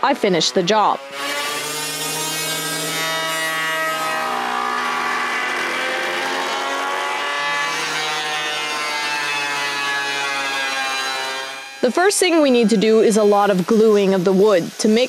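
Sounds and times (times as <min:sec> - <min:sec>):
jointer cutting wood: 0:00.0 - 0:15.0.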